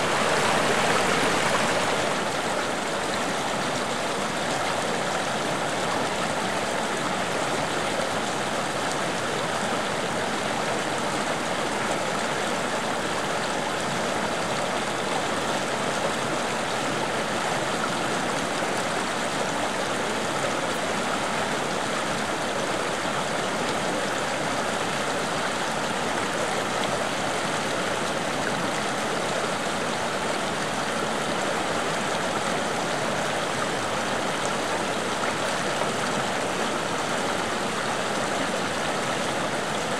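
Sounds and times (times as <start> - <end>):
stream water rushing and burbling: 0.0 - 39.9.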